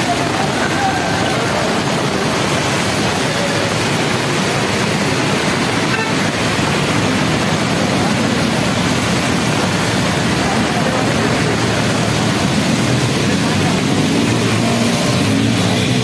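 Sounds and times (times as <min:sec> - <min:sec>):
heavy rain: 0:00.0 - 0:16.0
traffic on wet road: 0:00.0 - 0:16.0.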